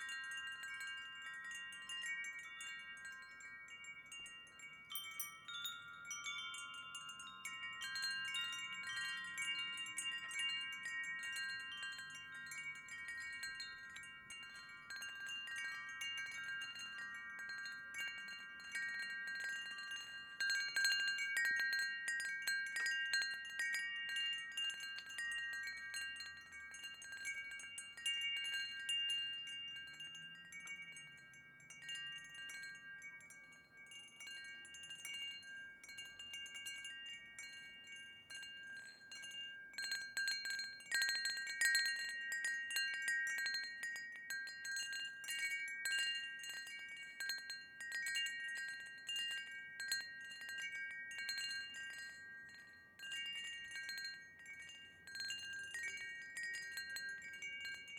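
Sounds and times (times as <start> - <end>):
wind chime ringing: 0.0 - 57.9.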